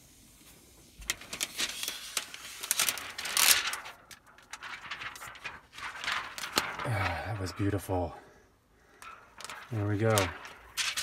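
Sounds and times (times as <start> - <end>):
plastic film peeling and crackling: 0.4 - 8.0, 8.8 - 11.0.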